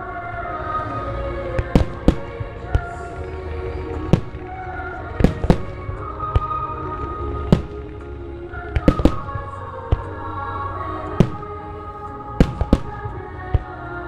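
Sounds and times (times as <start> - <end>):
music with long held tones: 0.0 - 14.0.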